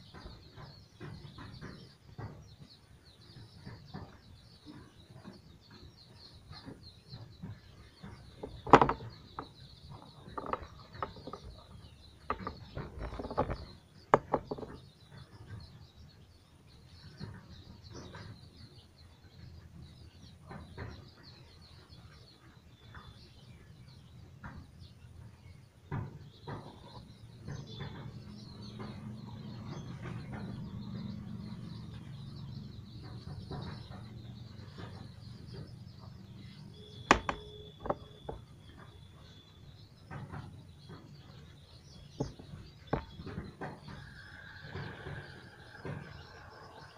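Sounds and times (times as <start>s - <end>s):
faint bird chirping: 0.0s - 46.9s.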